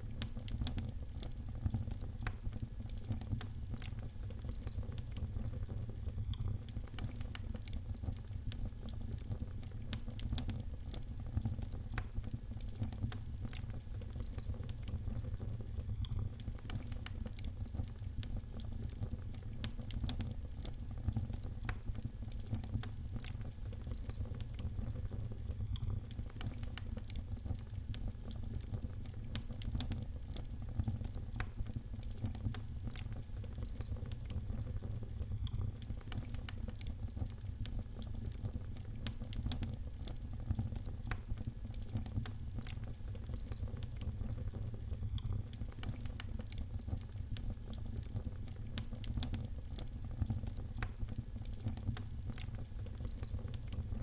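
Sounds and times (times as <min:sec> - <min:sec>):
fire crackling in a fireplace: 0:00.0 - 0:54.0.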